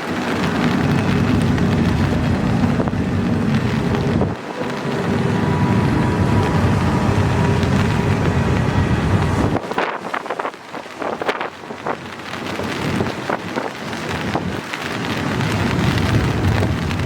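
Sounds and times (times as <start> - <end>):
freight train rumbling: 0.0 - 17.0
wind buffeting microphone: 0.0 - 17.0.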